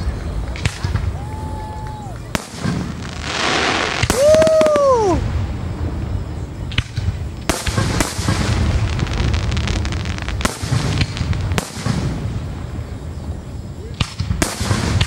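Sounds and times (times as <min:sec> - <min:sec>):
fireworks booming: 0:00.0 - 0:15.0
fireworks crackling and rumble: 0:00.0 - 0:15.0.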